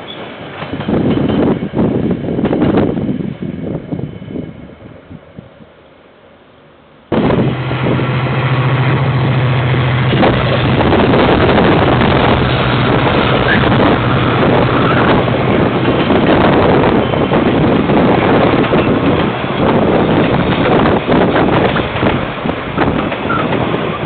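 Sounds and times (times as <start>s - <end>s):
train rolling noise: 0.0s - 24.0s.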